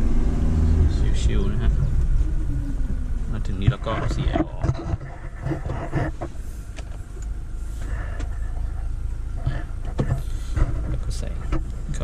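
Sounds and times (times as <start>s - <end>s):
engine and road rumble in cab: 0.0s - 12.0s.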